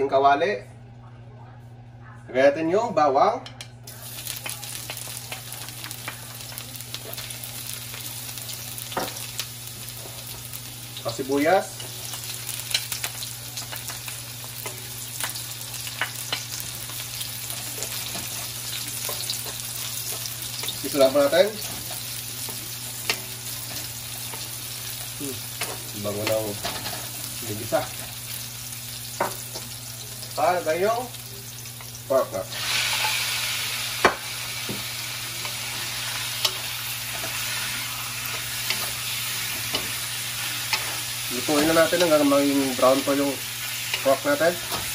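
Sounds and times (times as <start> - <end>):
crackles and pops of onions in oil: 3.9 - 30.4, 33.8 - 44.9
garlic sizzling in hot oil: 3.9 - 44.9.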